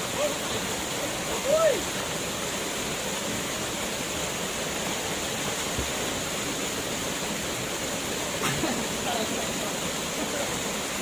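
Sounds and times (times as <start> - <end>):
waterfall crashing into a pool: 0.0 - 11.0.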